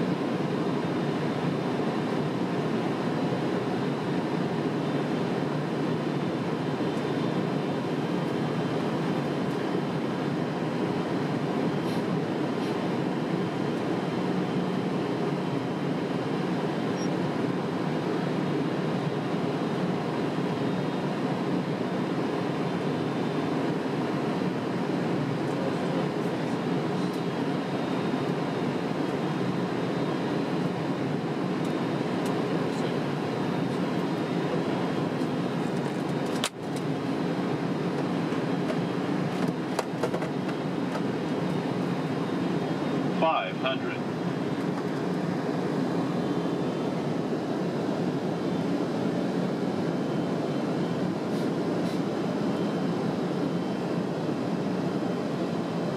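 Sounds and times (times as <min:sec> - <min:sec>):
aircraft cabin rumble: 0:00.0 - 0:55.9.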